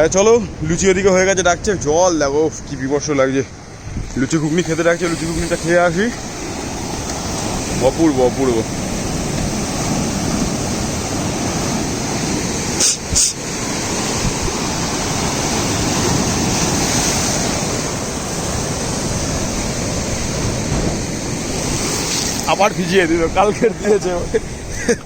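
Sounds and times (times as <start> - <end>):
sea waves breaking against seawall: 3.5 - 25.0.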